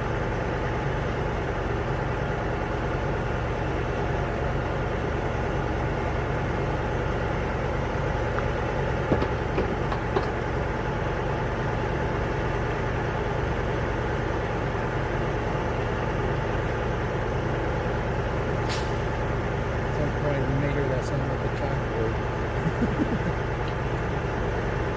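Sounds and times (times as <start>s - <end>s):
vehicle engine idling: 0.0s - 24.9s.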